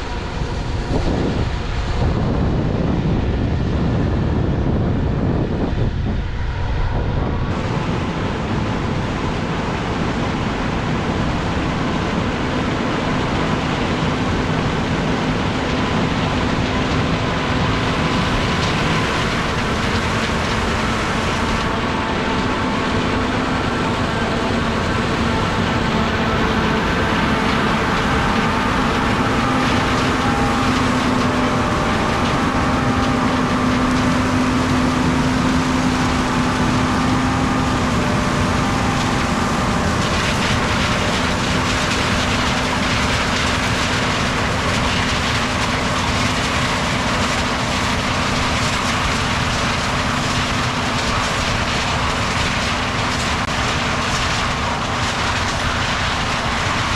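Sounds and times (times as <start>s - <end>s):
harvest machinery engine drone: 0.0s - 56.9s.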